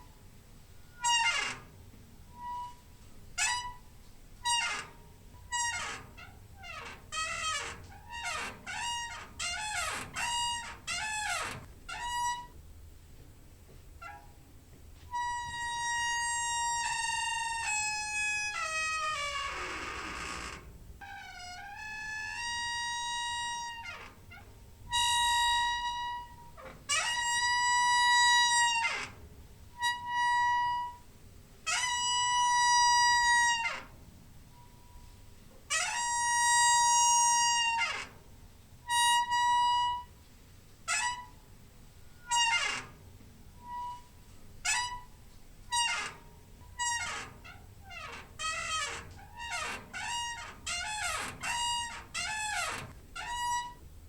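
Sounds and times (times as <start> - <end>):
squeaking door hinge: 0.8 - 12.6, 14.0 - 14.4, 15.1 - 31.1, 31.7 - 35.1, 35.7 - 38.2, 38.8 - 40.2, 40.9 - 41.4, 42.1 - 53.9.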